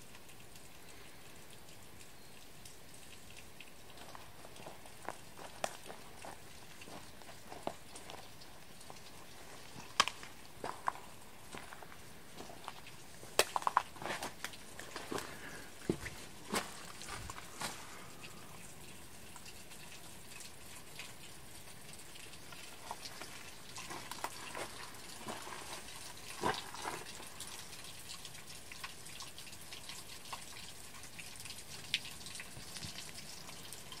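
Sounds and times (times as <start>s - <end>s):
faint running water: 0.0s - 34.0s
water dripping onto wet ground: 0.0s - 34.0s.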